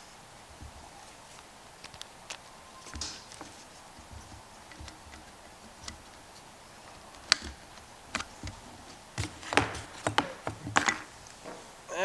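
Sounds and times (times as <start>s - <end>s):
parts and cord handled on workbench: 0.4s - 11.8s.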